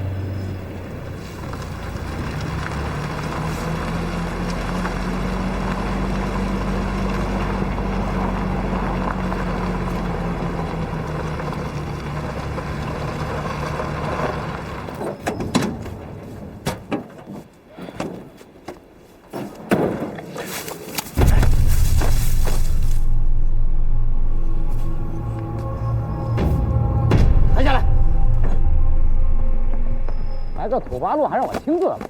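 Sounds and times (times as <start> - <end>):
military truck engine running: 0.0 - 16.3, 21.2 - 31.4.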